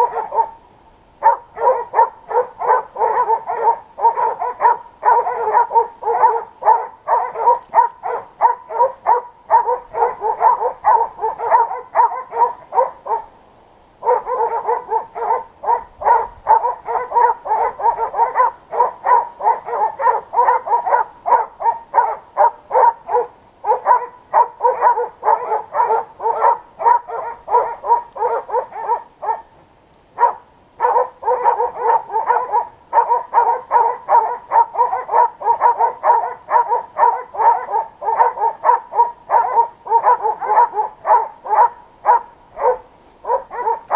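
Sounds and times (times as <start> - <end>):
dogs barking fast: 0.0 - 0.6, 1.2 - 13.3, 14.0 - 29.5, 30.2 - 43.9.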